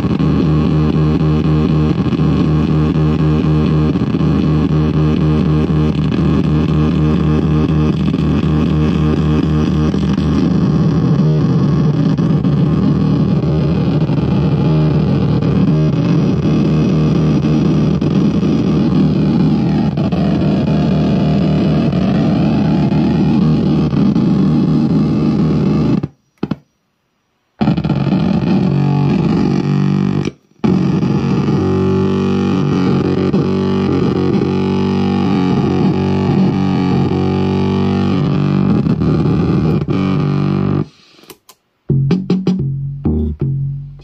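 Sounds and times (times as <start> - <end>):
distorted drum machine loop: 0.0 - 26.7, 27.6 - 44.0.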